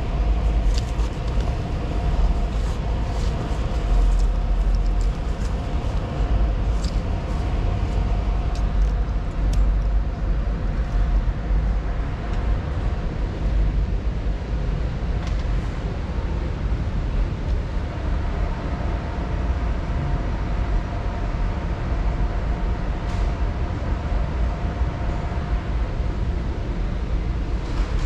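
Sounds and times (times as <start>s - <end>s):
store background rumble: 0.0s - 28.0s.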